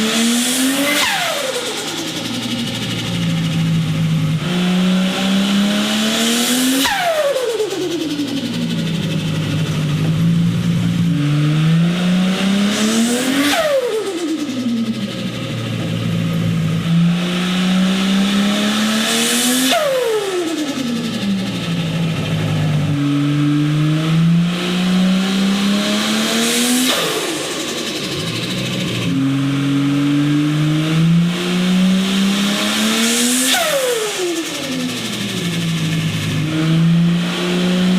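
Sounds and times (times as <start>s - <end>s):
cars accelerating past: 0.0s - 37.9s.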